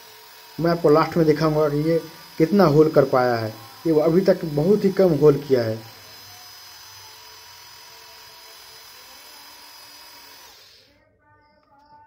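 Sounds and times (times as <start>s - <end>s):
electric drill cutting iron: 0.0s - 11.0s.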